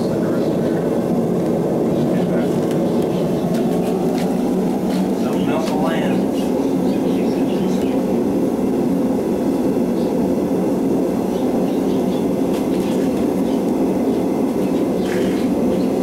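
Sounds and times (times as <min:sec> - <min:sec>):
gas forge burner rushing: 0:00.0 - 0:16.0.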